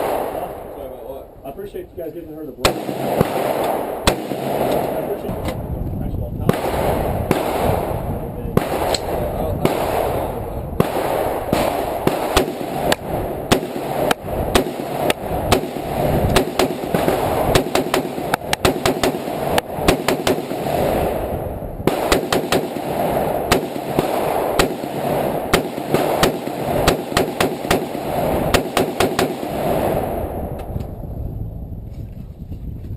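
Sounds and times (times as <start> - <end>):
rifle shots cracking: 0.0 - 0.8, 2.6 - 5.6, 6.5 - 30.4.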